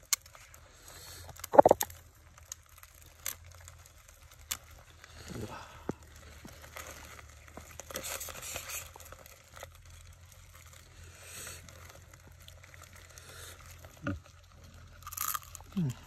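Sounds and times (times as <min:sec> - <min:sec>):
soft crackling and rustling: 0:00.0 - 0:16.0.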